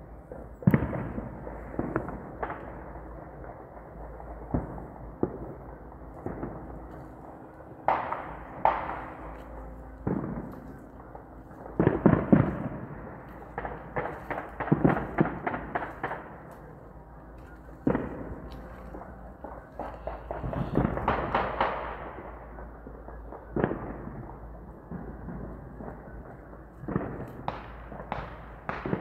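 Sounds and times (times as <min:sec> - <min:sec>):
distant explosive bangs echoing: 0:00.0 - 0:29.0.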